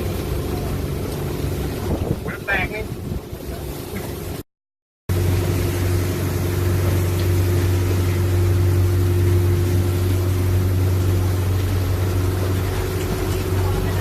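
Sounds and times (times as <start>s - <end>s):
boat engine droning: 0.0s - 4.4s, 5.1s - 14.0s.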